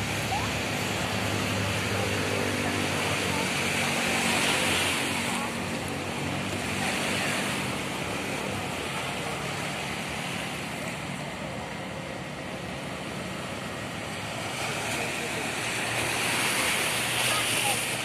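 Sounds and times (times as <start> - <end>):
waves washing on sandy beach: 0.0 - 18.0.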